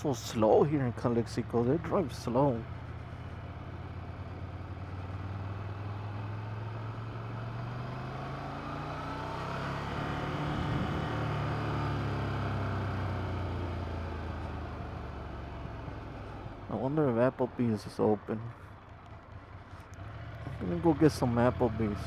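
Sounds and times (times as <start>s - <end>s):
motorcycle engine running: 0.0s - 22.0s
wind and road noise: 0.0s - 22.0s.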